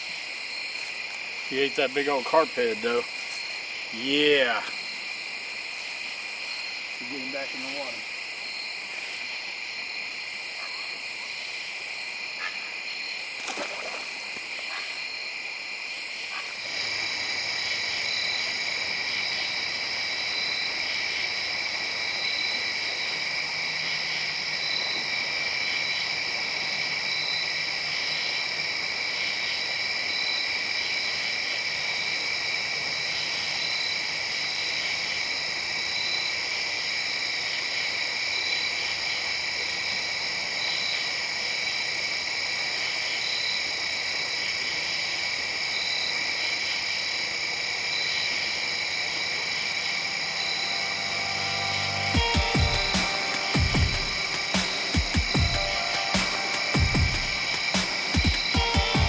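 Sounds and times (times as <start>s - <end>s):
crickets and insects trilling: 0.0s - 59.0s
high insect trill: 0.0s - 59.0s.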